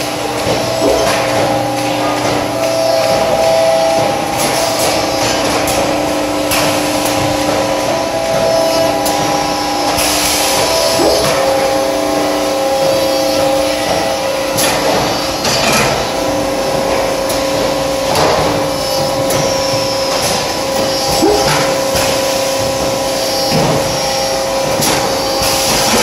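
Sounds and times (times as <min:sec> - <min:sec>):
machine motors and pumps humming: 0:00.0 - 0:26.0.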